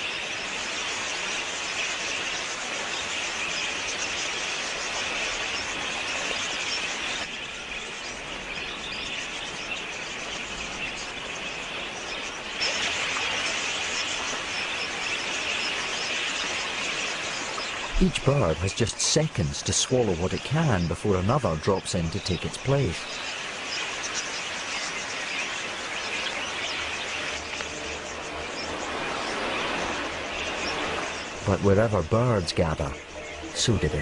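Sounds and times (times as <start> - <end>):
flock of budgerigars chattering: 0.0 - 34.0.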